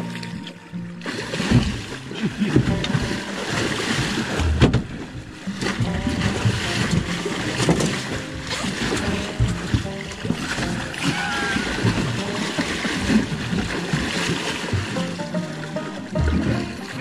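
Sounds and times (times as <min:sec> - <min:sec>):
water splashing against boat: 0:00.0 - 0:17.0.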